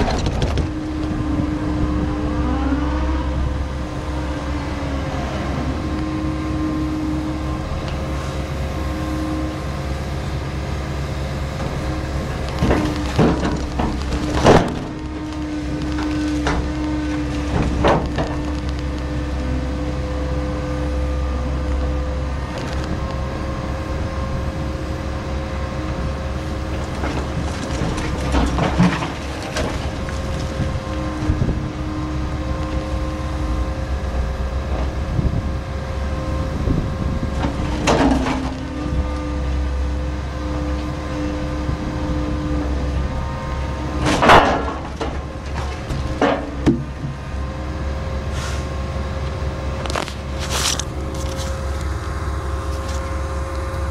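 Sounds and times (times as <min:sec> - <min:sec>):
hydraulic whine: 0:00.0 - 0:53.9
log loader engine hum: 0:00.0 - 0:53.9.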